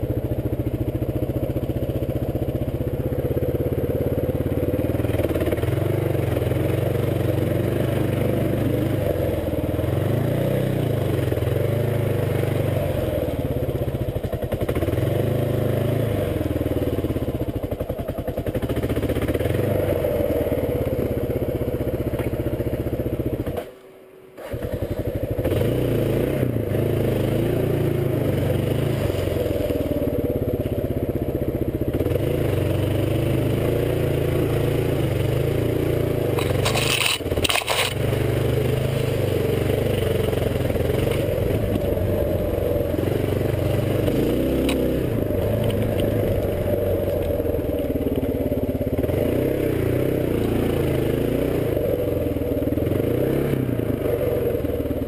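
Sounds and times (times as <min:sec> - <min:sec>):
motorcycle engine running: 0:00.0 - 0:23.7, 0:24.4 - 0:55.0.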